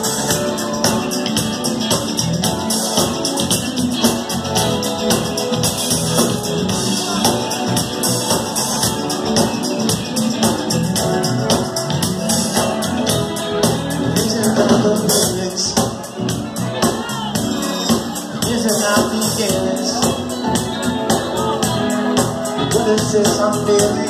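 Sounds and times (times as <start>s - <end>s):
drum kit beating steadily: 0.0s - 24.0s
electric guitar: 0.0s - 24.0s
live rock band playing: 0.0s - 24.0s.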